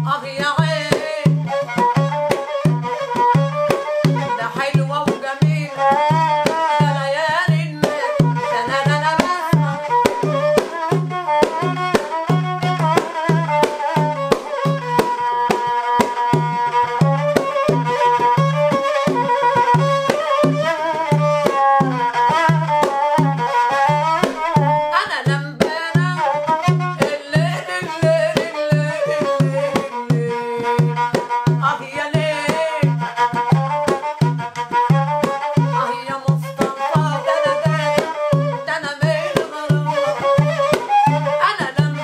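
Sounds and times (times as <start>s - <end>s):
bowed fiddle folk melody: 0.0s - 42.0s
frame drum beating: 0.0s - 42.0s.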